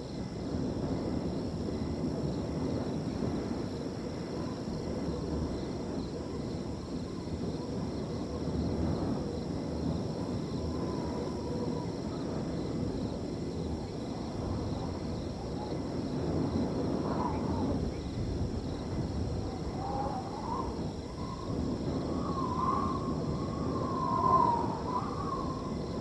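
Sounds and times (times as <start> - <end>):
crickets trilling: 0.0 - 26.0
wind blowing through field: 0.0 - 26.0.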